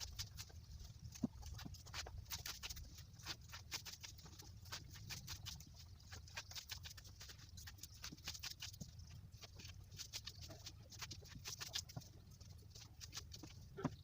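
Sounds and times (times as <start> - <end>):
leaves rustling: 0.0 - 13.8
leafy greens snapping: 0.0 - 14.0.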